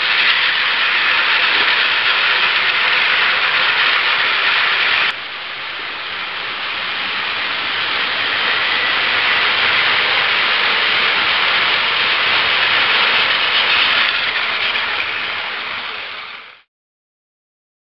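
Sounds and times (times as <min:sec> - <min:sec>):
toy train motor buzzing: 0:00.0 - 0:16.6.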